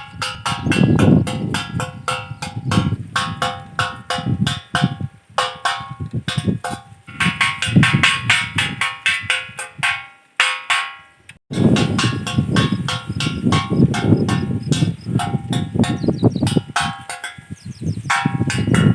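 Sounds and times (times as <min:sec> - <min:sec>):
bird scarer clanging: 0:00.0 - 0:18.9.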